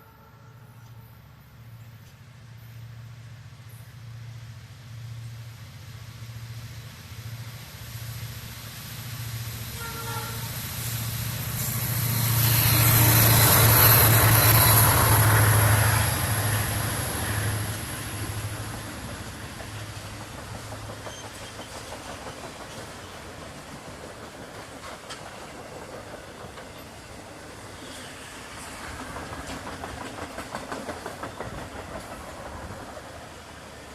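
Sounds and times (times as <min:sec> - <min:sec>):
diesel locomotive engine drone: 0:00.0 - 0:33.9
train wheels rolling on rails: 0:00.7 - 0:33.9.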